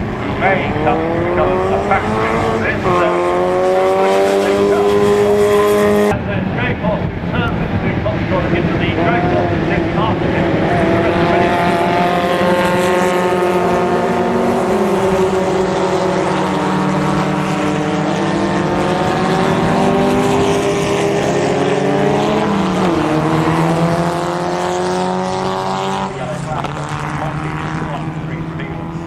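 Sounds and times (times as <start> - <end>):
race car engines revving: 0.0 - 29.0.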